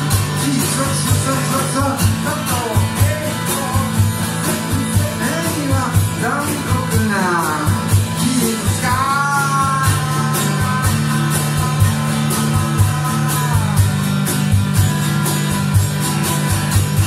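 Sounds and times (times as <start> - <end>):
man singing: 0.0 - 14.5
steady drum beat: 0.0 - 17.0
strummed acoustic guitar: 0.0 - 17.0.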